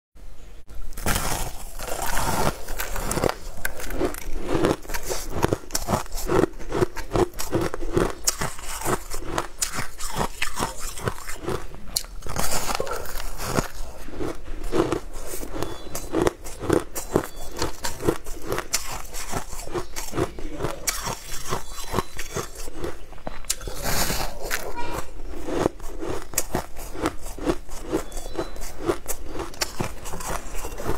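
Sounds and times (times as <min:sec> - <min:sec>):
chewing ice: 0:00.9 - 0:30.9
crunching bites into shaved ice: 0:00.9 - 0:30.9.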